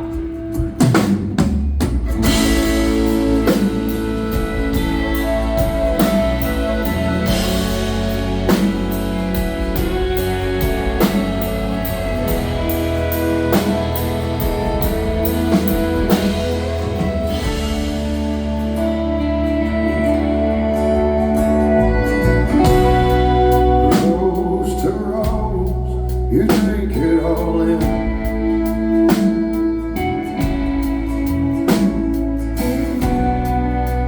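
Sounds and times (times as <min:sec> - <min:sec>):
drum kit beat: 0:00.0 - 0:34.0
guitars playing a waltz: 0:00.0 - 0:34.0.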